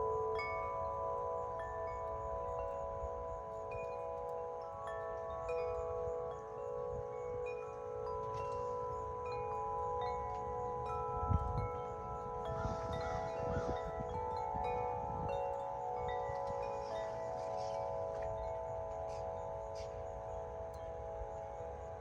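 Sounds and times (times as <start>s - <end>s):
deep wind chimes ringing: 0.0s - 22.0s
wind rumble on microphone: 0.0s - 22.0s.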